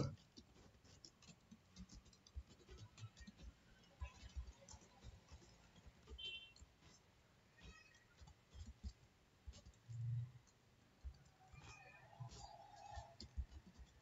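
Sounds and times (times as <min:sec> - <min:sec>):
faint keyboard keystrokes: 0:00.0 - 0:14.0.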